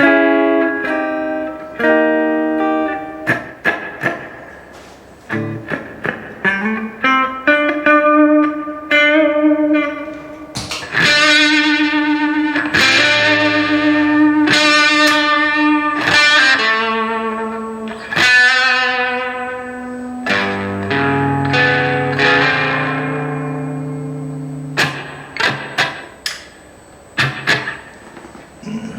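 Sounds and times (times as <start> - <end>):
electric guitar with reverb: 0.0 - 26.3.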